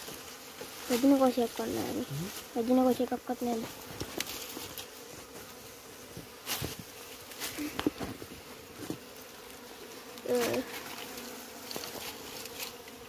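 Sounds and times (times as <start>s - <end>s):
bee buzzing close by: 0.0s - 13.0s
honeybees buzzing: 0.0s - 13.0s.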